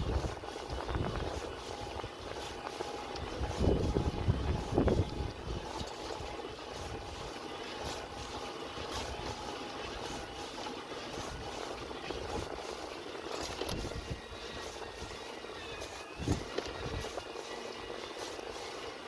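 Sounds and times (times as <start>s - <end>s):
electric bike motor whine: 0.0s - 19.0s
tyre and wind rumble: 0.0s - 19.0s.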